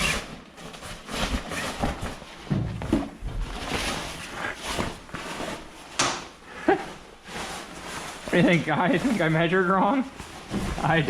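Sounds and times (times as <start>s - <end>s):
fabric cover rustling: 0.0s - 11.0s.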